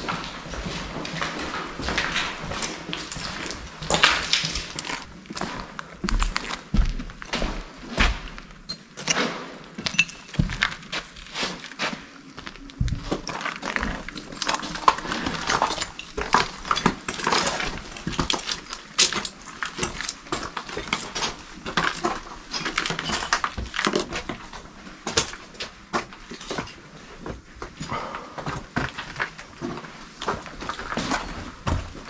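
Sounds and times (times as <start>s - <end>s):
footsteps crunching on stone stairs: 0.0s - 8.7s, 9.6s - 32.0s.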